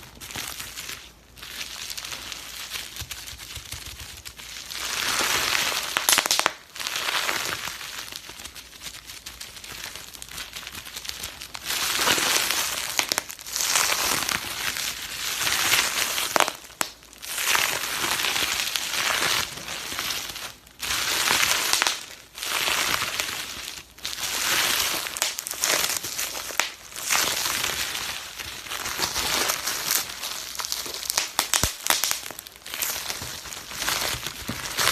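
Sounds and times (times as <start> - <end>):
bubble wrap popping: 0.0 - 34.9.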